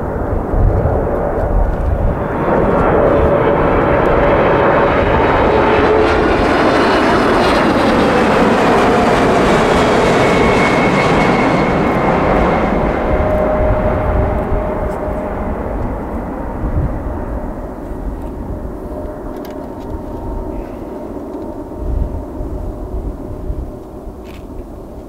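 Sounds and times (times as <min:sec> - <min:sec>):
jet airliner roar overhead: 0:00.0 - 0:25.0
jet engine whine dropping in pitch: 0:00.0 - 0:25.0.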